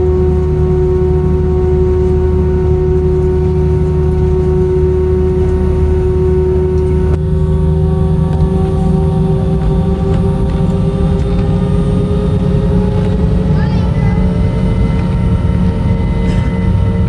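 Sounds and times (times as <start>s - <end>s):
aircraft cabin rumble: 0.0s - 17.0s
idling jet engine whine: 0.0s - 17.0s.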